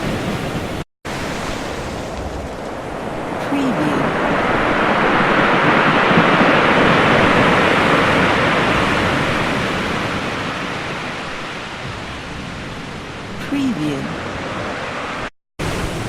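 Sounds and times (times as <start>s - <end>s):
ocean waves crashing on shore: 0.0s - 16.0s.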